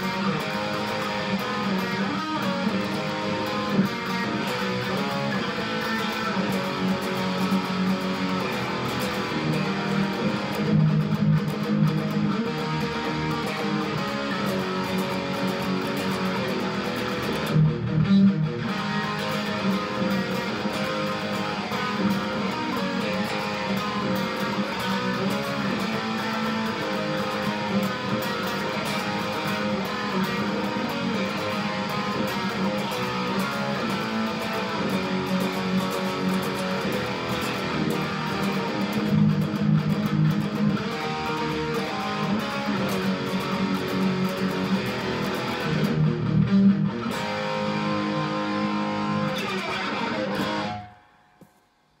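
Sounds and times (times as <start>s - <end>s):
electric guitar punk riffs: 0.0s - 51.2s.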